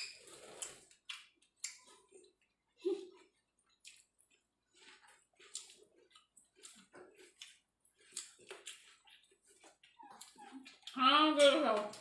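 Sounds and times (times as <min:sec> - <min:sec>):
mouth clicks and chewing: 0:00.0 - 0:12.0.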